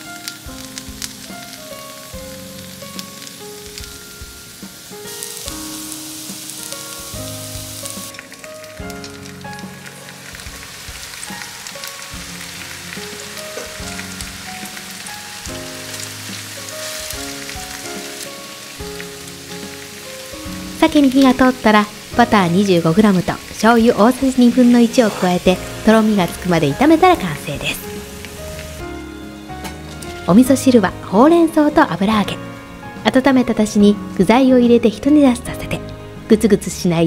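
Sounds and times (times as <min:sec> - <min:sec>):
food sizzling in a frying pan: 0:00.0 - 0:36.8
background music: 0:00.0 - 0:37.0.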